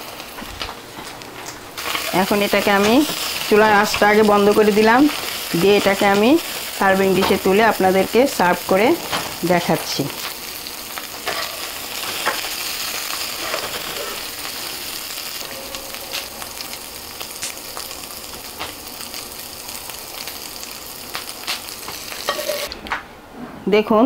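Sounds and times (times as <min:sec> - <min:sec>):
oil sizzling in a pan: 0:00.0 - 0:00.8, 0:01.7 - 0:22.7.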